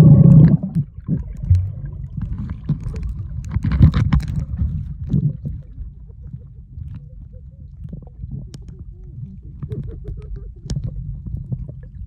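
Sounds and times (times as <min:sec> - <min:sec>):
muffled underwater rumble: 0:00.0 - 0:12.0
underwater clicks and knocks: 0:00.0 - 0:12.0.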